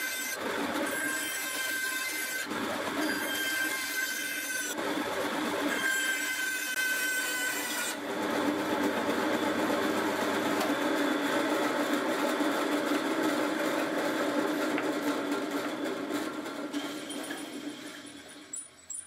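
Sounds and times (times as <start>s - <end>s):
bandsaw cutting wood: 0.0s - 16.7s.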